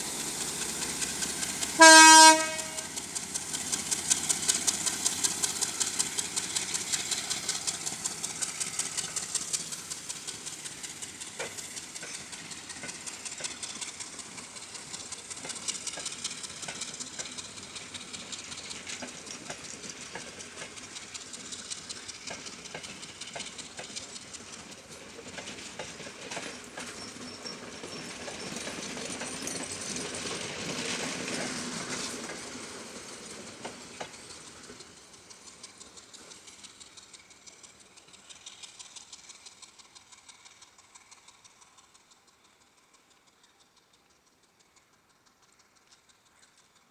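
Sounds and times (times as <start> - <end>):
train wheels clicking on rails: 0.0 - 46.9.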